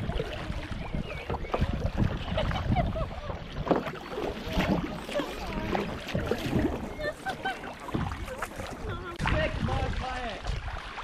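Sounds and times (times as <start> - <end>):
wind rumble on microphone: 0.0 - 7.2, 7.9 - 11.0
paddles splashing in water: 0.0 - 11.0.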